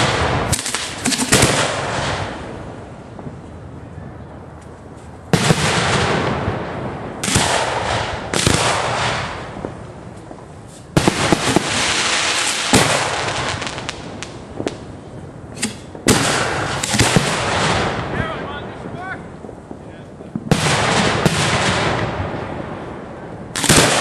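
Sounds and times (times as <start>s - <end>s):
firework launch blasts: 0.0s - 3.4s, 5.3s - 24.0s
sharp firework cracks: 0.0s - 3.5s, 4.6s - 24.0s
firework crackling and hissing: 0.0s - 24.0s.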